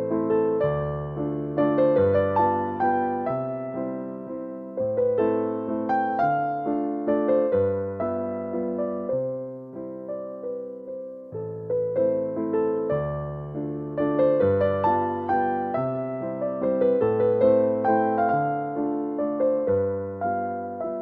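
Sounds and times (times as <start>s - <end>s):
electric piano melody: 0.0s - 21.0s.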